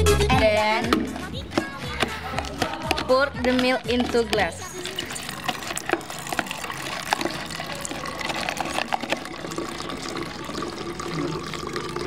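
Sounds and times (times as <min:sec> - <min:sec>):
milk pouring into plastic bottle: 0:00.8 - 0:12.0.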